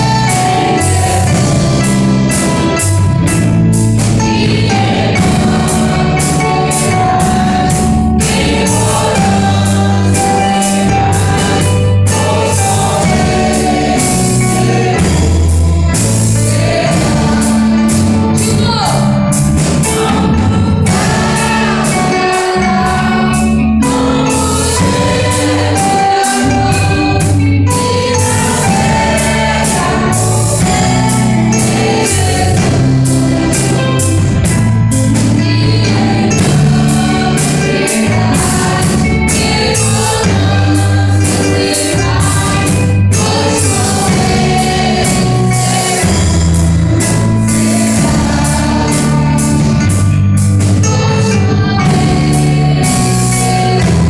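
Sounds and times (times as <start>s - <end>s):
full band with steady beat: 0.0s - 54.0s
gospel hymn singing: 0.0s - 54.0s.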